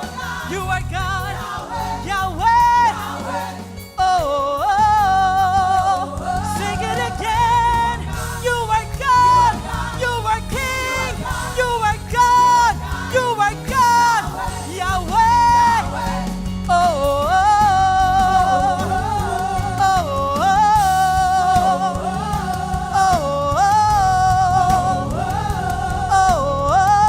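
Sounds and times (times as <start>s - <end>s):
full band playing: 0.0s - 27.0s
singers with vibrato: 0.0s - 27.0s.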